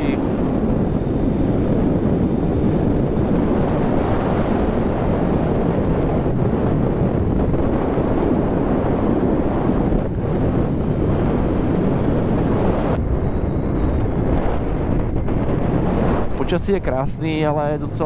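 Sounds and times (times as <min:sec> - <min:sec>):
motorcycle running and road noise: 0:00.0 - 0:16.4
wind rushing over microphone: 0:00.0 - 0:18.0.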